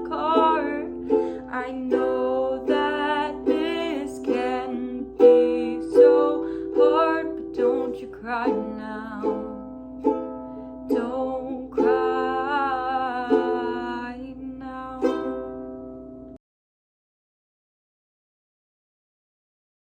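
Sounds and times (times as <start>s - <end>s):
strummed ukulele chords: 0.0s - 16.4s.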